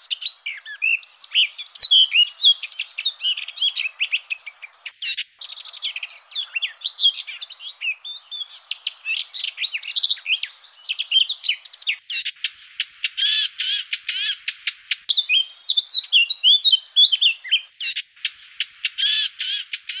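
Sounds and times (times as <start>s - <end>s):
bird warbling song: 0.0s - 20.0s.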